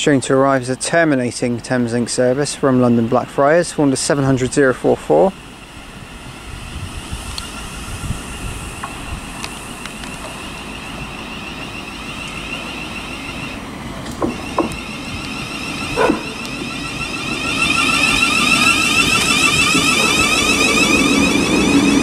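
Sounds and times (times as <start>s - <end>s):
electric train whine: 0.0s - 22.0s.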